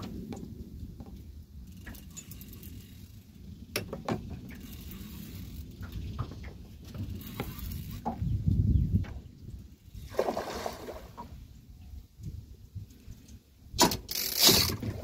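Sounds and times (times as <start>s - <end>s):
wind and water rumbling: 0.0s - 15.0s.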